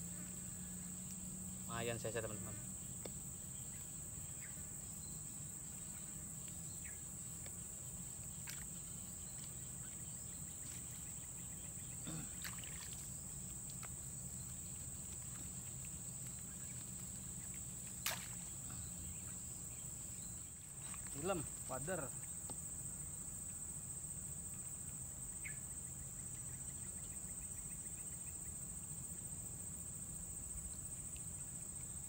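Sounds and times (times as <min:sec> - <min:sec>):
high insect chorus: 0:00.0 - 0:32.0.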